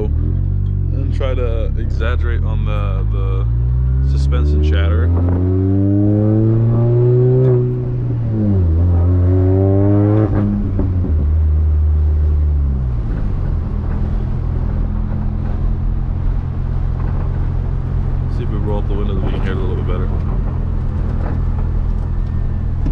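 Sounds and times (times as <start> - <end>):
car engine revving through gears: 0.0 - 22.9.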